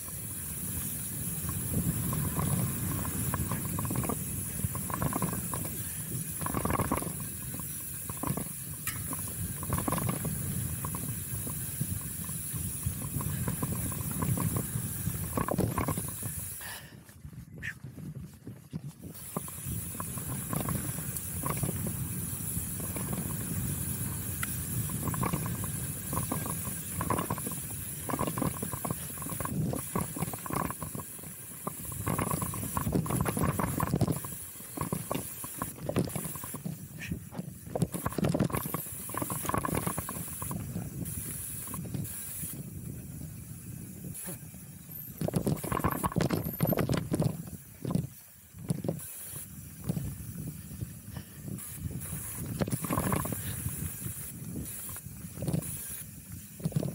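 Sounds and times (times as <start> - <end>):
bike tyres on dirt: 0.0 - 56.9
wind on microphone: 0.0 - 56.9.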